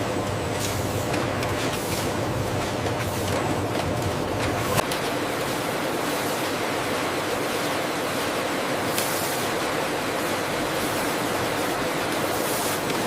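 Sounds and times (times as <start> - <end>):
factory machinery running: 0.0 - 13.0.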